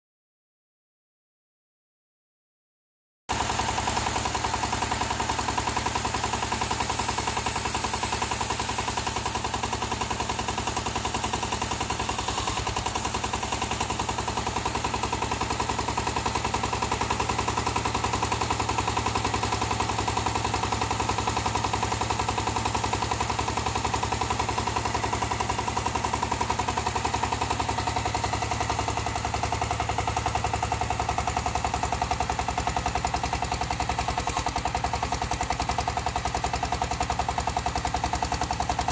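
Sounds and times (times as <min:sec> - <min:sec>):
small diesel engine chugging: 0:03.3 - 0:38.9.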